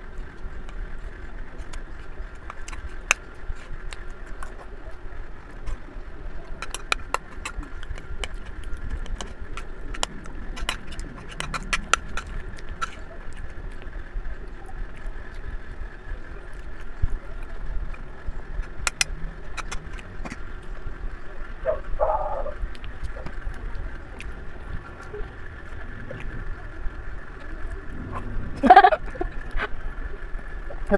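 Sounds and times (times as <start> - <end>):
faint steady hum: 0.0 - 30.9
chewing: 0.1 - 29.8.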